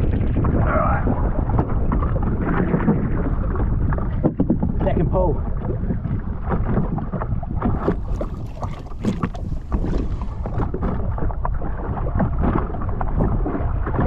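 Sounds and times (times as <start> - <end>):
sea water slapping against hull: 0.0 - 14.0
wind buffeting microphone: 0.0 - 14.0.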